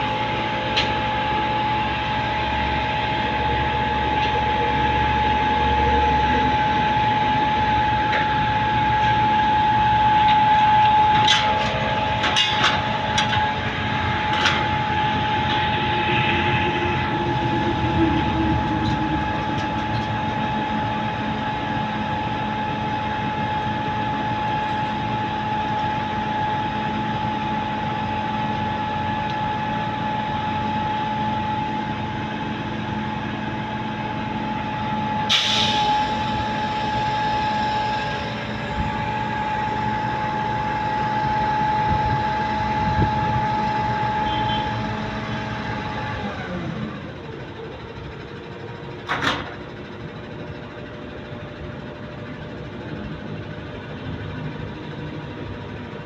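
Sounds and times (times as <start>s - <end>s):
constant whine: 0.0s - 56.0s
diesel engine and machinery running: 0.0s - 56.0s.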